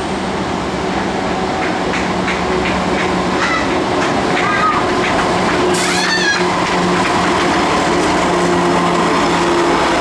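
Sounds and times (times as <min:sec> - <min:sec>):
diesel locomotive engines droning: 0:00.0 - 0:10.0
train wheels rumbling on rail: 0:00.0 - 0:10.0.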